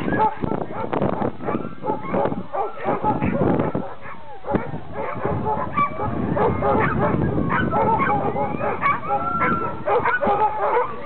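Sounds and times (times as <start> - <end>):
huskies barking and howling: 0.0 - 11.0.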